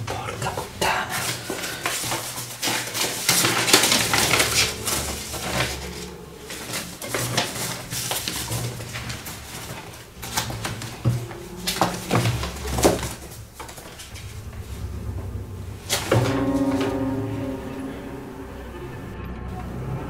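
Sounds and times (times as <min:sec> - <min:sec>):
papers rustling and pages flapping: 0:00.0 - 0:17.6
knocks of objects being moved: 0:00.0 - 0:20.0.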